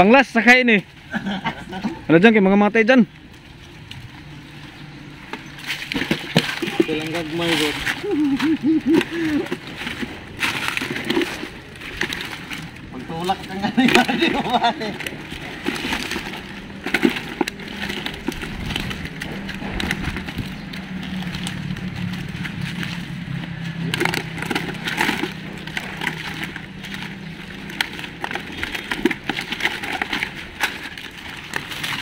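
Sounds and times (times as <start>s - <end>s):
leaves and net rustling: 0.0s - 32.0s
low hum: 2.8s - 32.0s.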